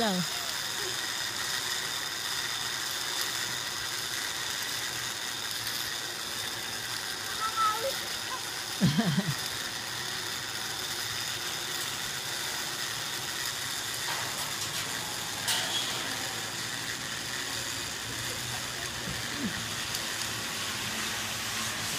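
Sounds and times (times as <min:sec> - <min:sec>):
pulley trolley rolling on cable: 0:00.0 - 0:21.9.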